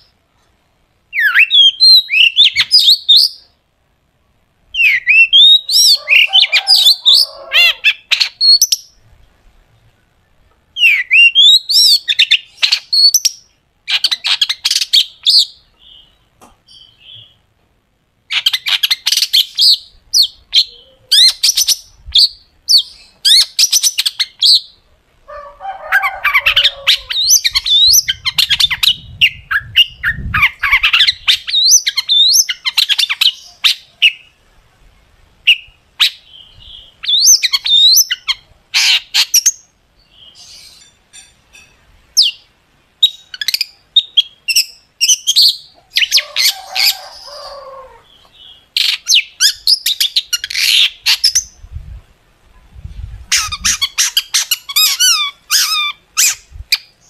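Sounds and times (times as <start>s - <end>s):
harsh rasping bird calls: 4.7s - 9.0s, 10.7s - 17.4s, 18.3s - 34.4s, 35.4s - 51.6s, 53.3s - 57.0s.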